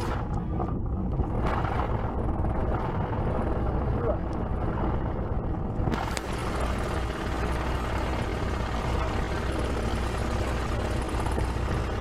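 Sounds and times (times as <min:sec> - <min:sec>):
aircraft cabin drone: 0:00.0 - 0:12.0.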